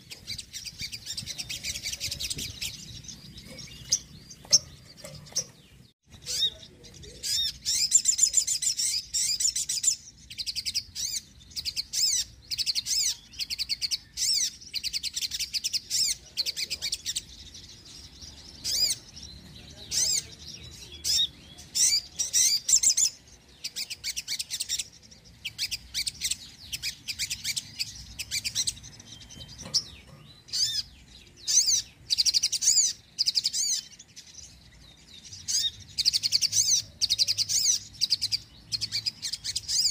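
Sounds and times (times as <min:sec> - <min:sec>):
bird chirping trills: 0:00.0 - 0:39.9.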